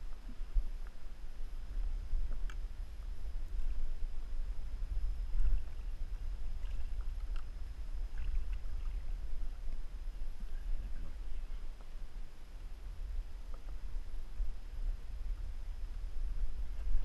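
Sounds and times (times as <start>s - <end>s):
sea water around kayak: 0.0s - 17.0s
wind: 0.0s - 17.0s.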